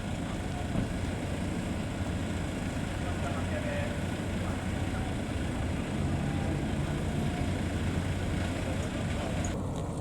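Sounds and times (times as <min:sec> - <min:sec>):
large engine humming: 0:00.0 - 0:10.0
outdoor noise: 0:00.0 - 0:10.0.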